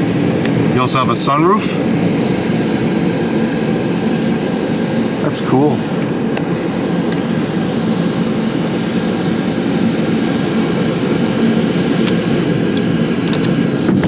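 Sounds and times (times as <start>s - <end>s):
car cabin engine hum: 0.0s - 14.0s.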